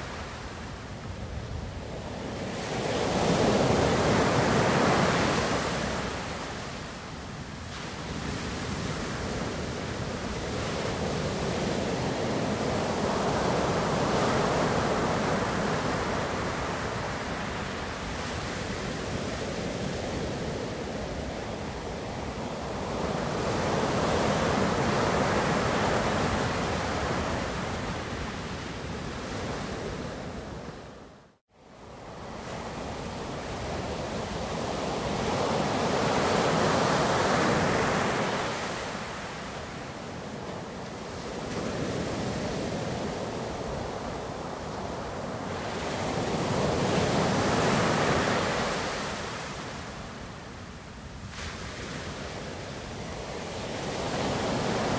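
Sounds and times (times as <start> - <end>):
ocean waves washing in: 0.0 - 54.9.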